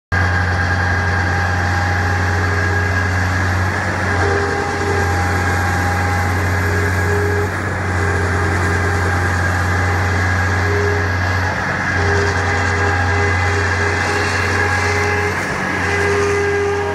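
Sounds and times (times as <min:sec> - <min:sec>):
concrete pump engine drone: 0:00.1 - 0:16.9.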